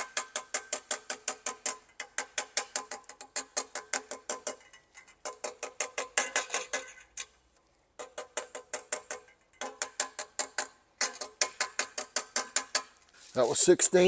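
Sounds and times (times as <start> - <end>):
hammer tapping metal tube: 0.0 - 7.1, 8.0 - 13.0.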